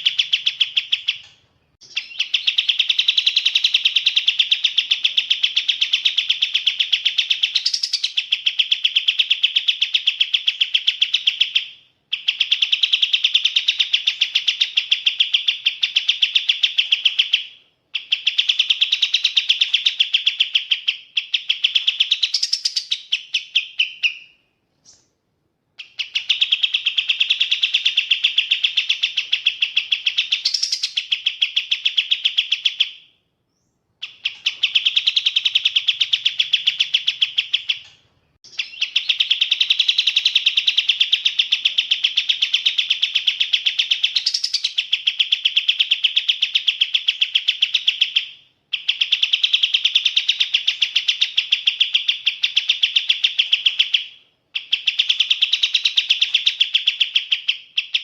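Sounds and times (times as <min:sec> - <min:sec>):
songbird chirping rapidly: 0:00.0 - 0:58.0.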